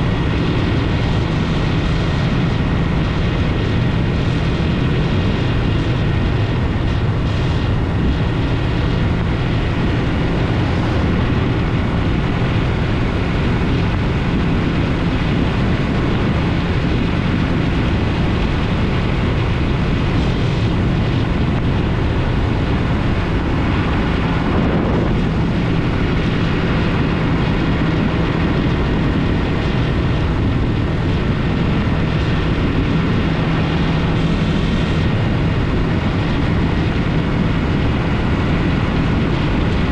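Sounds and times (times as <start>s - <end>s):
motorcycle engine drone: 0.0s - 39.9s
rushing noise: 0.0s - 39.9s.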